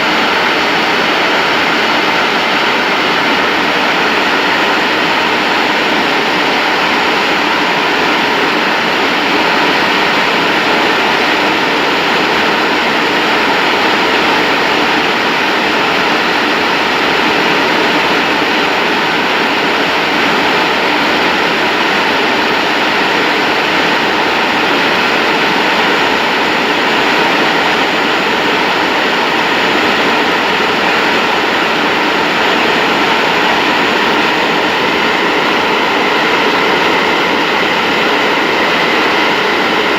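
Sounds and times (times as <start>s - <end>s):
jet engine rushing noise: 0.0s - 39.9s.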